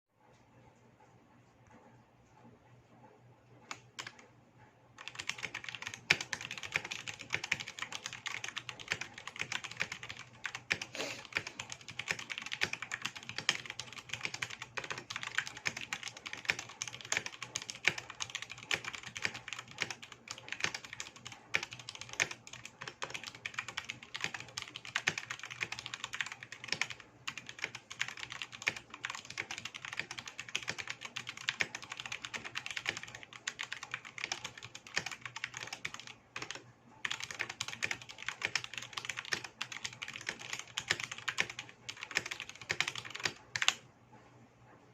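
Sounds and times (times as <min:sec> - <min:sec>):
mechanical keyboard typing: 0:03.6 - 0:04.3, 0:05.0 - 0:43.8.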